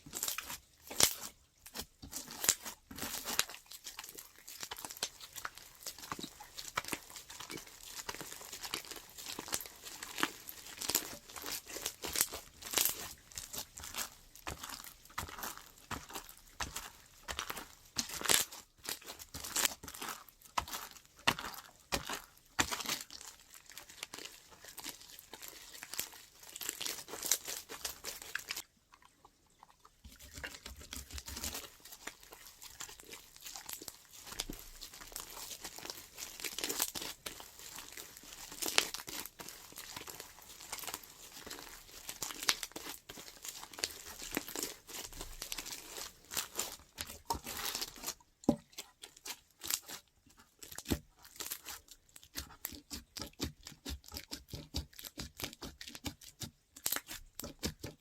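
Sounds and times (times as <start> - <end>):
slime crackling and popping: 0.0 - 28.6, 30.2 - 58.0.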